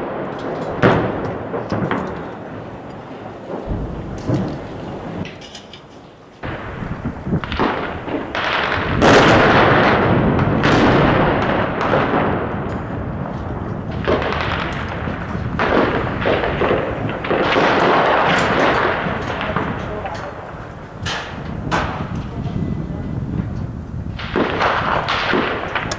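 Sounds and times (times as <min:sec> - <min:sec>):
explosions: 0:00.0 - 0:05.3, 0:06.4 - 0:25.9
heavy gunfire echoing: 0:00.0 - 0:05.3, 0:06.4 - 0:25.9.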